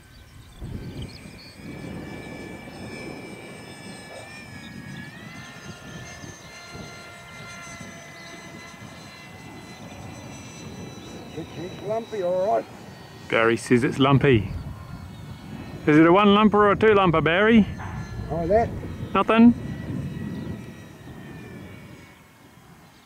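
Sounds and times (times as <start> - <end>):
electric ducted fan whining: 0.0 - 23.0
wind rumbling on microphone: 0.0 - 23.0.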